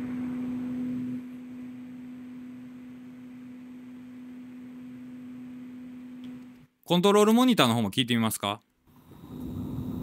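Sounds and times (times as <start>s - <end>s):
cooling fan humming: 0.0s - 10.0s.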